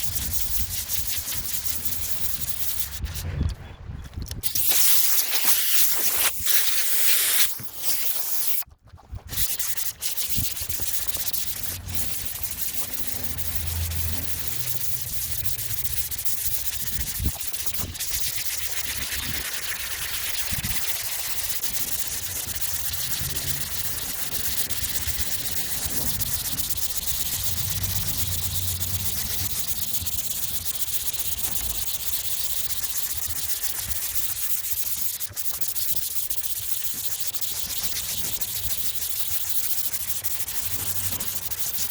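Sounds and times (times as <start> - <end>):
sandpaper rasping on metal: 0.0 - 3.3, 4.4 - 8.7, 9.3 - 41.9.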